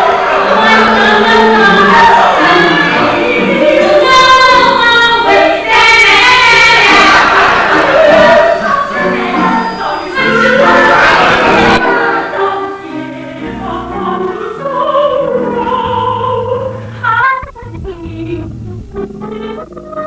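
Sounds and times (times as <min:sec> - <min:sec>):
group singing musical number: 0:00.0 - 0:17.1
musical accompaniment: 0:00.0 - 0:20.0.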